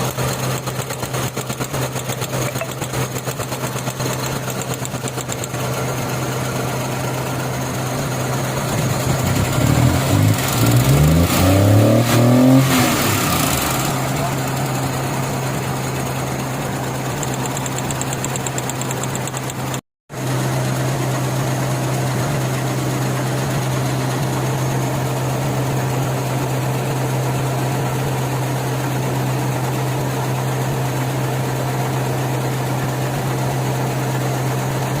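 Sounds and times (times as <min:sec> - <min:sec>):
car engine idling with misfire: 0:00.0 - 0:35.0.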